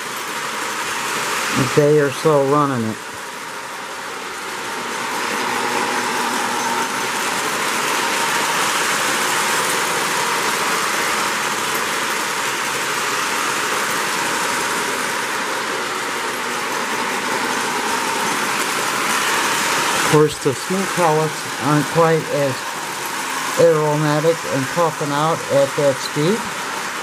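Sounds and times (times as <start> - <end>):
toy train wheels and motor whirring: 0.0 - 27.0.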